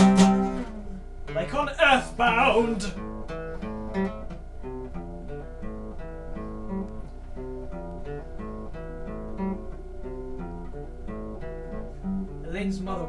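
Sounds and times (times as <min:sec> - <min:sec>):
classical acoustic guitar chords: 0:00.0 - 0:13.0.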